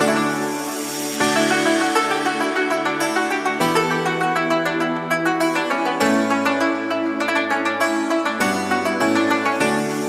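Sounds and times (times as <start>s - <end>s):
plucked strings music: 0.0s - 10.0s.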